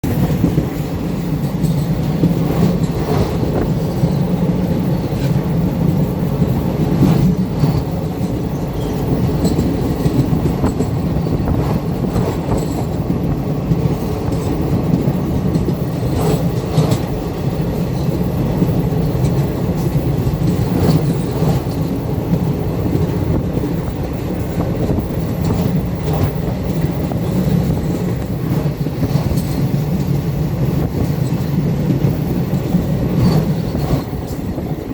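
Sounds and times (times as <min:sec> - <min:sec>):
train rumble: 0:00.0 - 0:34.9
wheels clacking over rail joints: 0:00.0 - 0:34.9.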